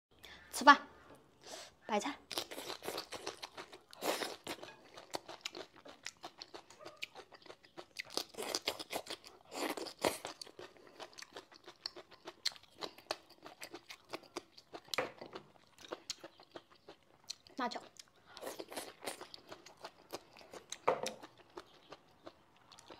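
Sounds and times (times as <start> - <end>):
person chewing crisp food: 2.2 - 22.9.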